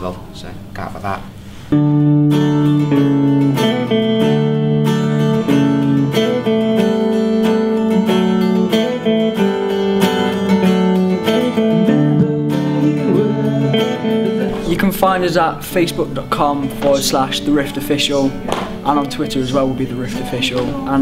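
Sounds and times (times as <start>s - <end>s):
strummed acoustic guitar chords: 1.8s - 19.4s.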